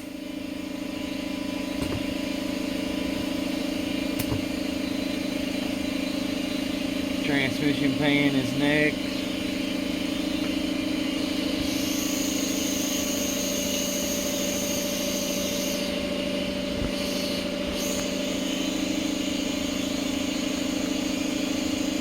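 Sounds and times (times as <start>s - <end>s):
machine drone: 0.0s - 22.0s
thin high whine: 0.0s - 22.0s.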